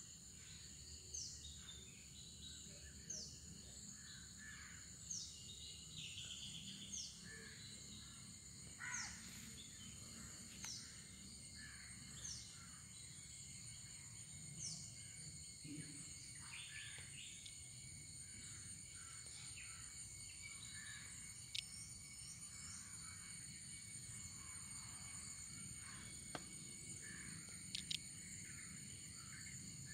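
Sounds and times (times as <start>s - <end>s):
insect drone: 0.0s - 29.9s.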